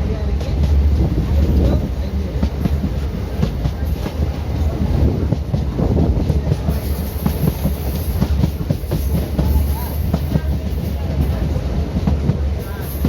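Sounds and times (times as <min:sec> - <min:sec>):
train running gear rumble: 0:00.0 - 0:13.0.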